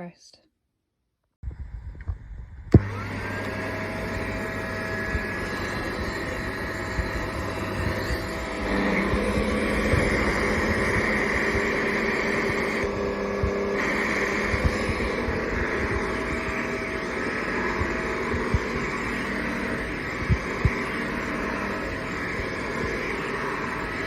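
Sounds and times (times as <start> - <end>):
vacuum cleaner motor whining: 2.7 - 24.0.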